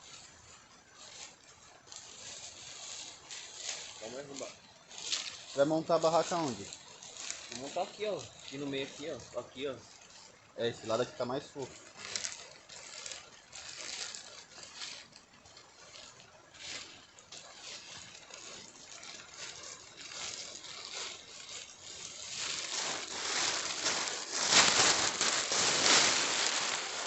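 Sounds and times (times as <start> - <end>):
tent fabric rustling: 0.0 - 27.0.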